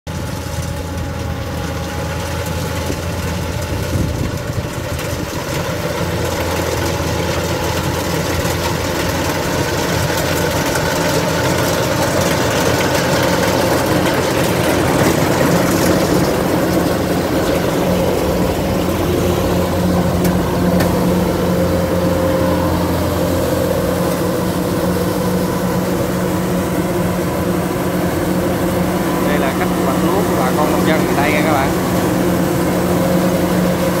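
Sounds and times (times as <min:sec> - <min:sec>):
combine harvester engine hum: 0:00.1 - 0:34.0.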